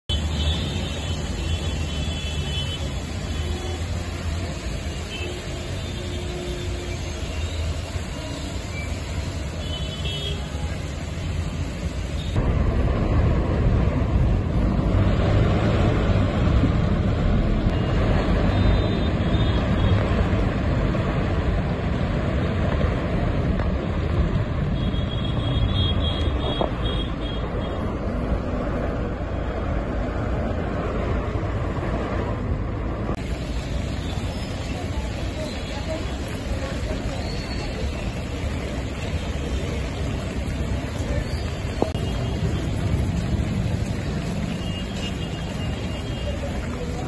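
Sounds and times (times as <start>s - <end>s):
traffic engines rumbling: 0.0s - 47.0s
tyres hissing on wet road: 0.1s - 47.0s.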